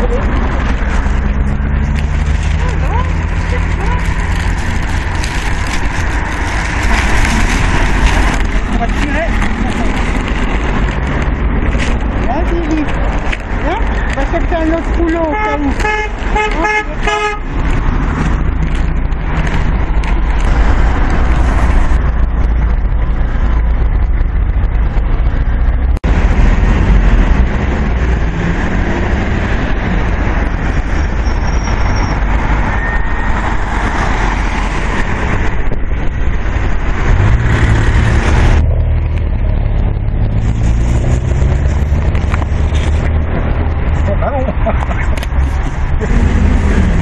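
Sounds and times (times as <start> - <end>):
cars driving past: 0.0 - 47.0.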